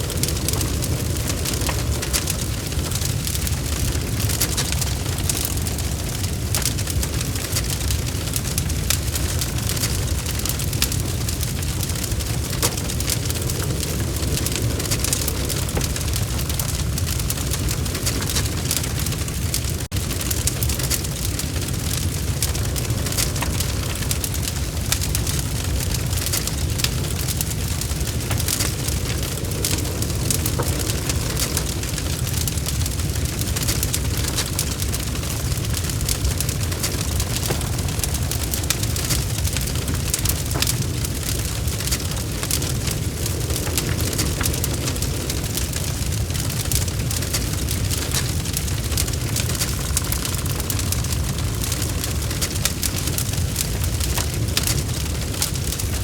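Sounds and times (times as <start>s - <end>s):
fire pops and snaps: 0.0s - 56.0s
log fire crackling: 0.0s - 56.0s
low rumble of flames: 0.0s - 56.0s.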